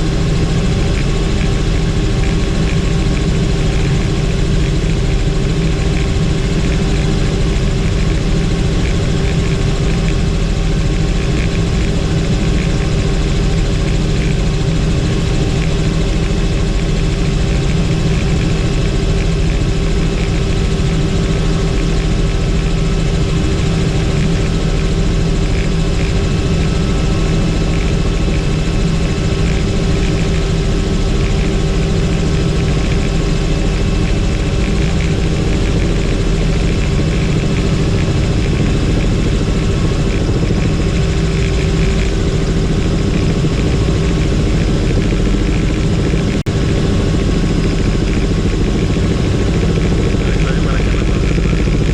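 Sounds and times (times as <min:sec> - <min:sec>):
helicopter engine and rotor drone: 0:00.0 - 0:51.9
whining tones: 0:00.0 - 0:51.9.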